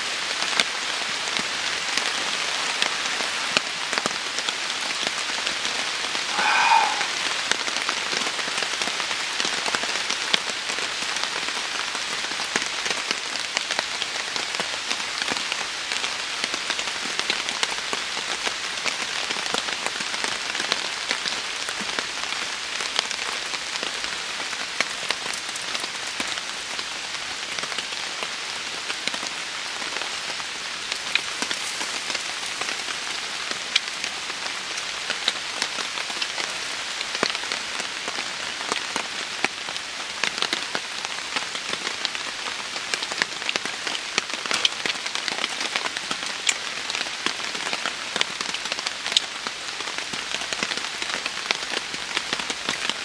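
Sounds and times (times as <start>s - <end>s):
raindrops striking close by: 0.0s - 53.0s
torrential rain pouring: 0.0s - 53.0s.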